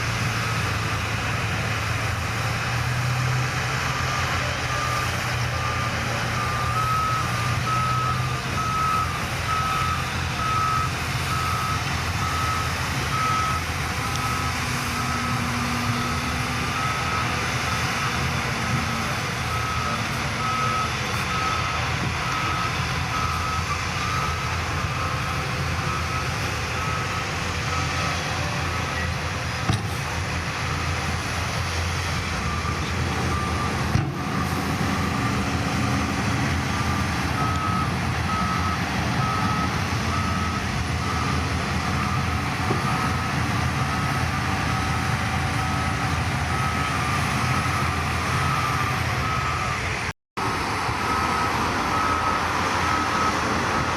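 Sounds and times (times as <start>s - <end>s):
diesel engine running: 0.0s - 53.9s
reversing alarm beeping: 3.0s - 50.1s, 50.9s - 53.9s.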